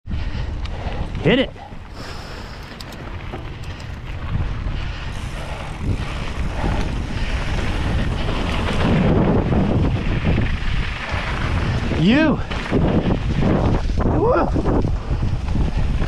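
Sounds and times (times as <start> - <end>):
tyres rumbling on dirt trail: 0.1 - 16.0
wind buffeting microphone: 0.1 - 16.0.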